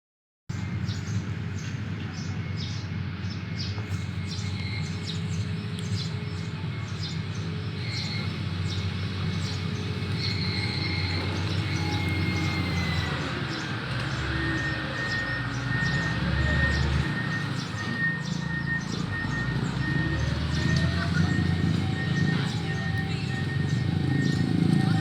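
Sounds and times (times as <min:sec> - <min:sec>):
birds chirping: 0:00.5 - 0:25.0
diesel engine running: 0:00.5 - 0:25.0.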